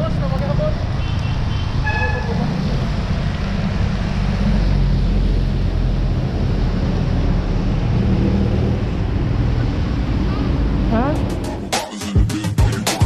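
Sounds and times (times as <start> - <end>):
road noise: 0.0 - 12.4.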